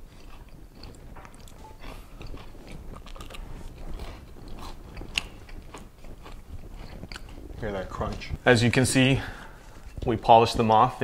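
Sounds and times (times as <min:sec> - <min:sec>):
crunching and chewing fried chicken: 0:00.0 - 0:10.2.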